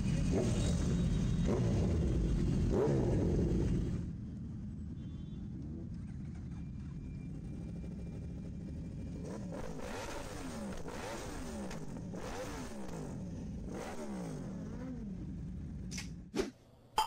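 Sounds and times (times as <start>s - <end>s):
motorcycle engine idling and revving: 0.0s - 16.3s.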